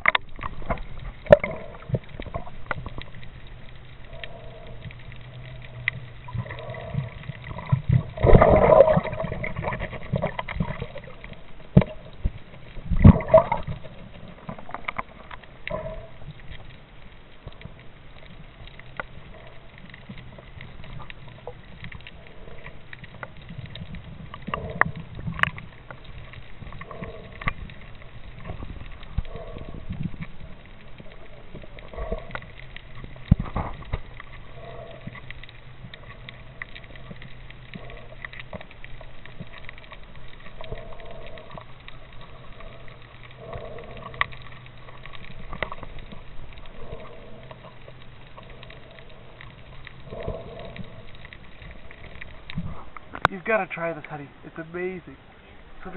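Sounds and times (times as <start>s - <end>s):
water sloshing and gurgling underwater: 0.0s - 55.9s.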